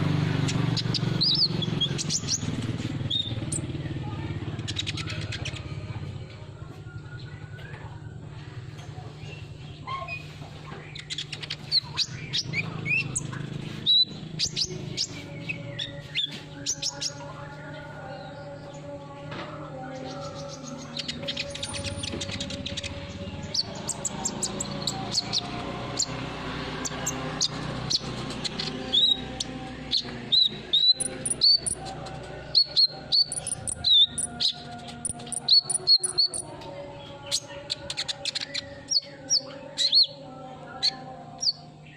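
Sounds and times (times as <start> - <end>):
bird chirping: 0.0 - 8.1, 8.8 - 19.2, 19.8 - 41.9.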